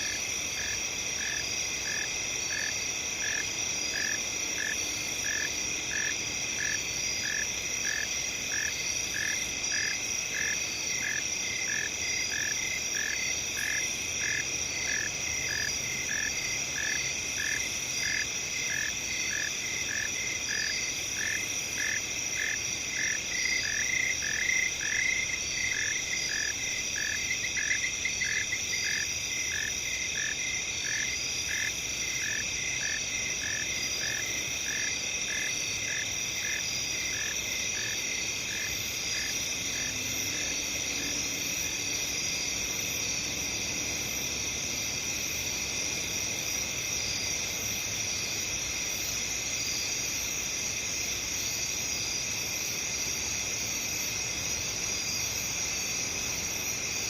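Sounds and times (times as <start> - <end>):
crickets and insects chorus: 0.0 - 57.0.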